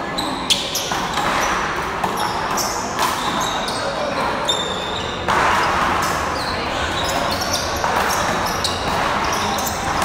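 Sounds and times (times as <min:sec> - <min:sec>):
shoes squeaking on floor: 0:00.0 - 0:10.0.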